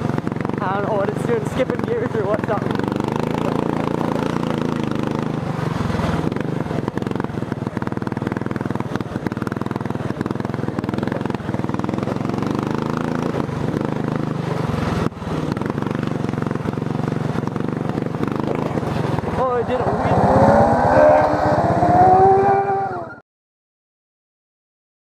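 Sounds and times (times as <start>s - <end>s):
lawn tractor engine running: 0.0s - 21.7s.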